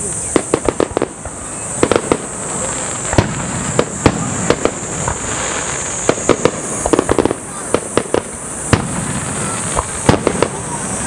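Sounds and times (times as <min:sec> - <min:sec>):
fireworks bangs and crackles: 0:00.0 - 0:11.0
high-pitched hiss: 0:00.0 - 0:11.0.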